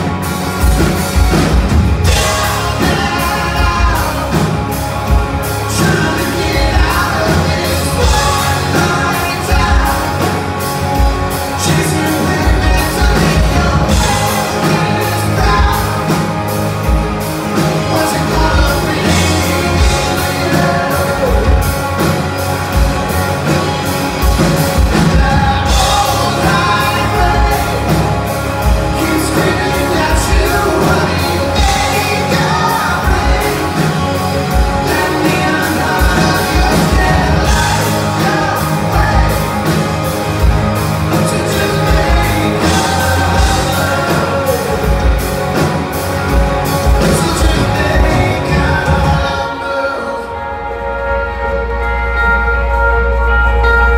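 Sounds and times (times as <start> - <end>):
bass guitar: 0.0 - 53.9
electric guitars: 0.0 - 53.9
steady drum beat: 0.0 - 53.9
man singing: 2.0 - 52.1.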